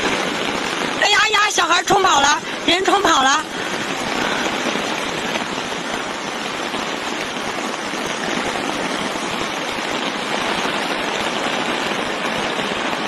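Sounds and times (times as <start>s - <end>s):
fast-flowing floodwater: 0.0s - 13.0s
heavy rain: 0.0s - 13.0s.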